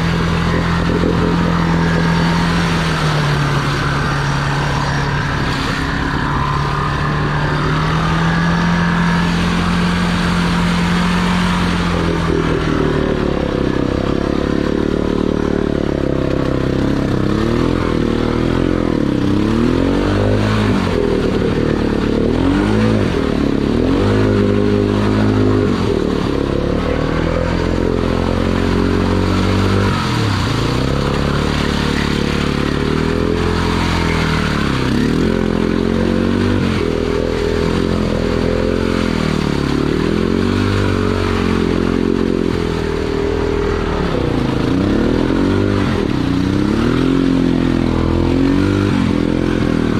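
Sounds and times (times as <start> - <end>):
atv engine revving under load: 0.0 - 49.9
mud spraying and scraping: 0.0 - 49.9.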